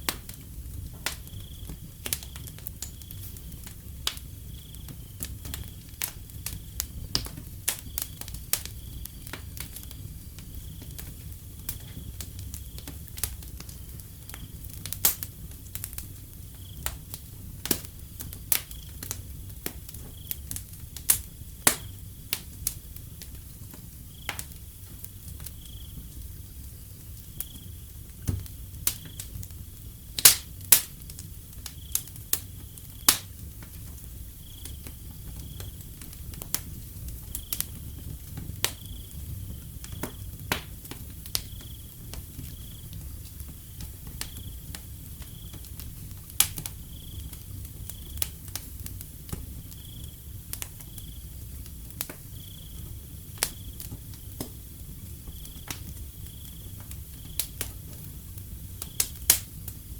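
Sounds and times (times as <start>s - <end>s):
low rumble of flames: 0.0s - 59.9s
wood fire crackling and popping: 0.0s - 59.9s
crickets chirping: 0.6s - 14.9s, 16.0s - 59.9s.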